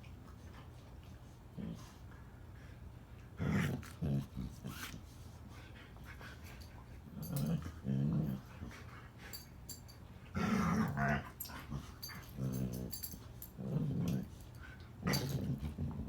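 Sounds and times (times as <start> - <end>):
dogs play-growling: 0.3 - 16.0.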